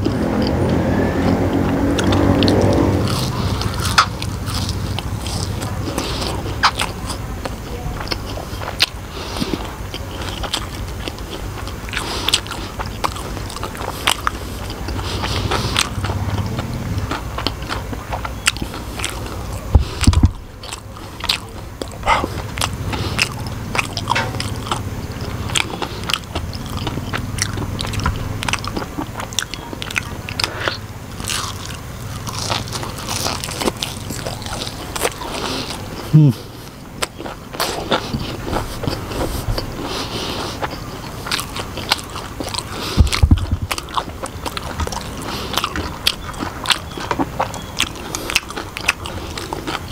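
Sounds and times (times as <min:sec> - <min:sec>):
person chewing crispy fried food: 0:00.0 - 0:49.9.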